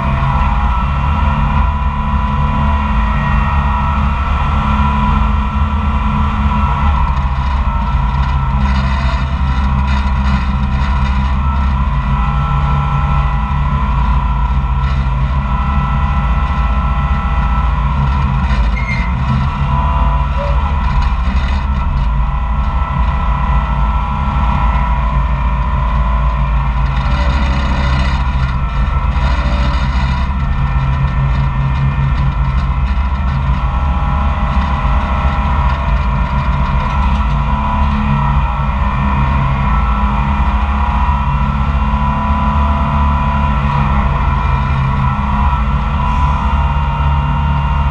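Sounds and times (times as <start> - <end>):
loud machine engine drone: 0.0 - 47.9.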